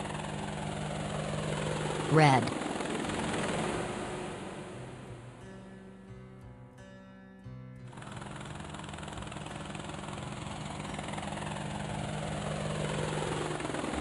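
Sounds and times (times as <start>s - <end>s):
helicopter rotor and engine: 0.0s - 6.1s, 7.8s - 14.0s.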